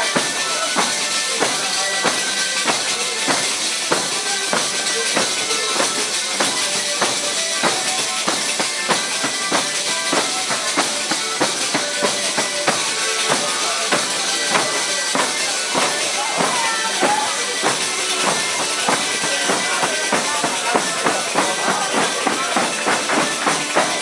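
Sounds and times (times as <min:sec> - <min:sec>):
accordion: 0:00.0 - 0:24.0
acoustic guitar: 0:00.0 - 0:24.0
tambourine beat: 0:00.0 - 0:24.0.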